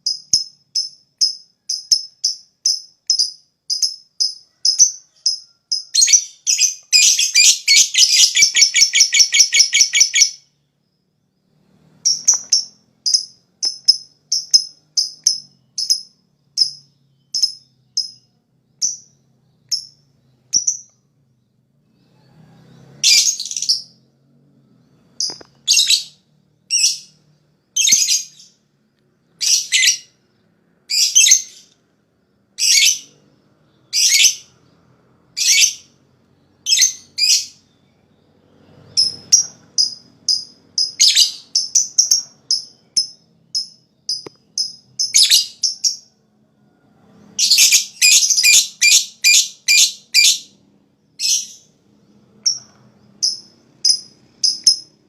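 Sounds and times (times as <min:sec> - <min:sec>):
lovebird chirping and trilling: 0:00.0 - 0:10.7, 0:11.4 - 0:21.1, 0:21.8 - 0:24.1, 0:24.7 - 0:28.6, 0:29.2 - 0:31.8, 0:32.6 - 0:46.2, 0:47.1 - 0:55.0.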